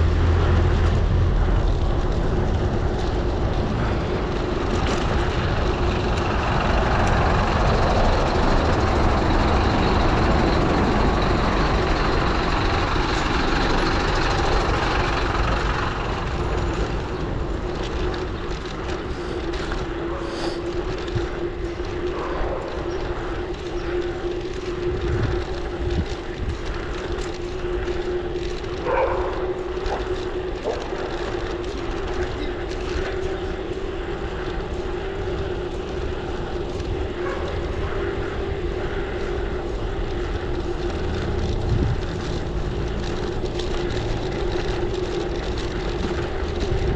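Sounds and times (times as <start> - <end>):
steady hum: 0.0 - 46.9
wind and road noise: 0.0 - 46.9.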